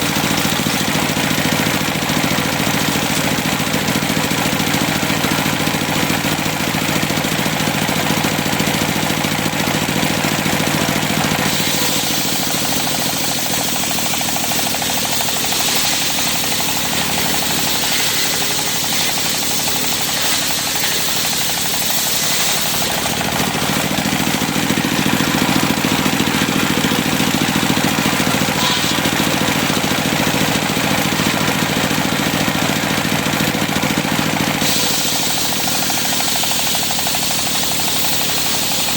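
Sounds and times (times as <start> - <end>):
saw blade cutting wood: 0.0 - 7.6, 9.5 - 33.4, 34.4 - 38.9
circular sawmill running: 0.0 - 38.9.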